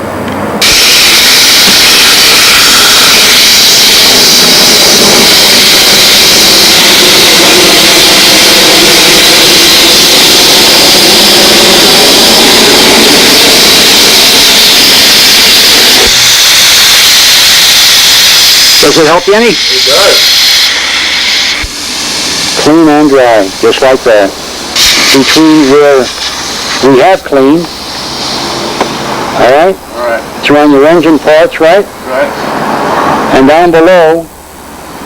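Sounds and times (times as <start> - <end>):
steam hissing from nozzle: 0.6 - 29.5.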